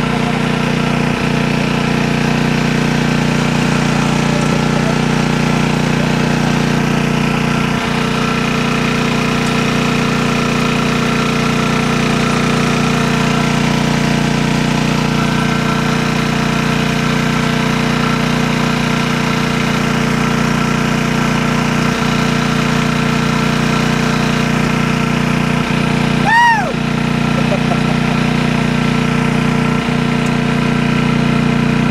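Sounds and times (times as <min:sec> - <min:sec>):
small engine droning: 0:00.0 - 0:31.9.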